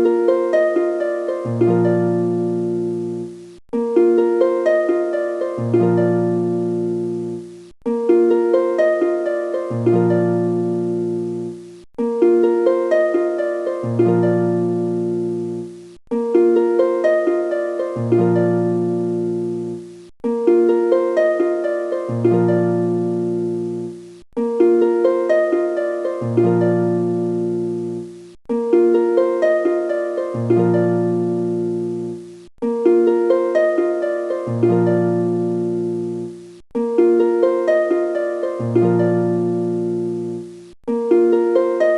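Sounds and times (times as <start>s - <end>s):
plucked harp-like music: 0.0s - 41.9s.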